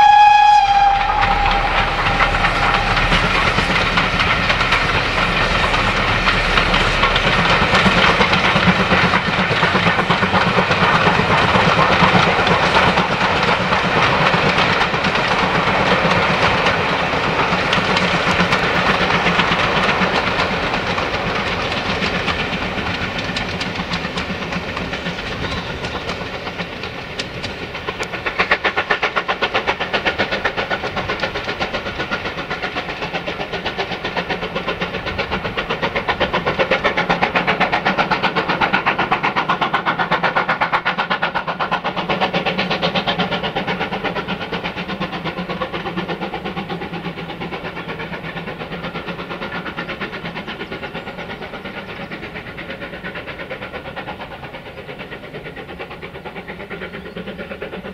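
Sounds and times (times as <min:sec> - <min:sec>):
steam locomotive exhaust beating: 0:00.0 - 0:57.9.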